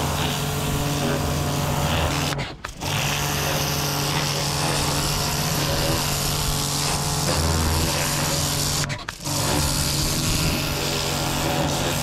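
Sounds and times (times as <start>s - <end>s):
pressure washer pump hum: 0.0s - 12.0s.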